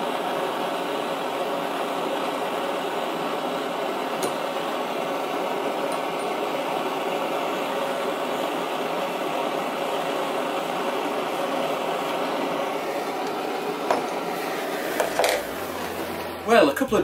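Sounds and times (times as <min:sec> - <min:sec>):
blowtorch flame hissing: 0:00.0 - 0:16.8.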